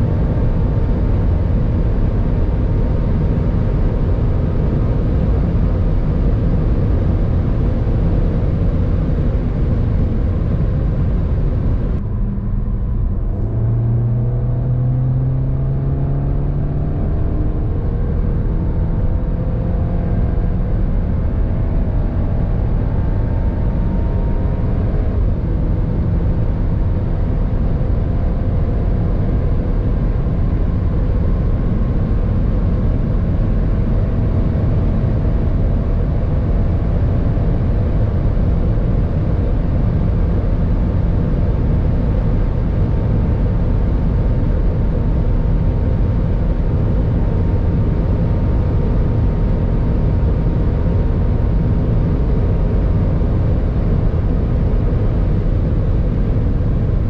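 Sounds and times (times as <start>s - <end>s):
car engine under full throttle: 0.0s - 57.0s
wind and road noise: 0.0s - 57.0s.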